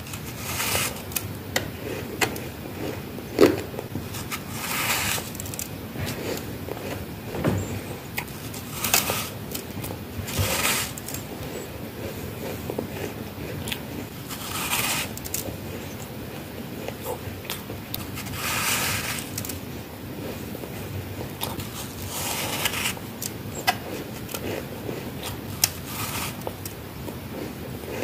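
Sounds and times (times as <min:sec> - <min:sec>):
ice being bitten and chewed: 0:00.0 - 0:28.0.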